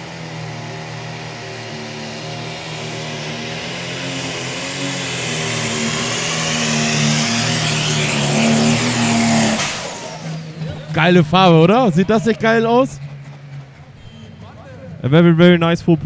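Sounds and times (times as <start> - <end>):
tractor diesel engine at full throttle: 0.0 - 16.0.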